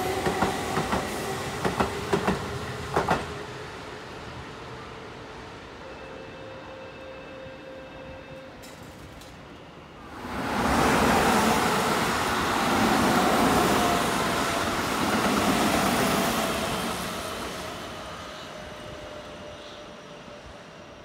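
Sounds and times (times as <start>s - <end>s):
train wheels rolling on rail: 0.0s - 5.0s, 8.3s - 21.0s.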